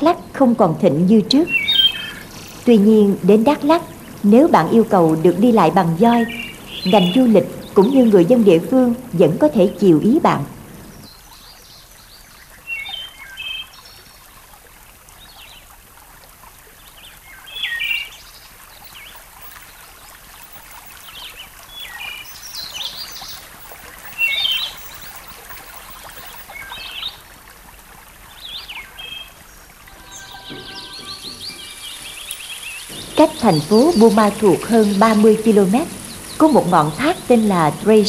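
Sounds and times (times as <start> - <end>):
birds chirping: 0.0 - 14.2, 16.8 - 27.5, 28.1 - 38.0.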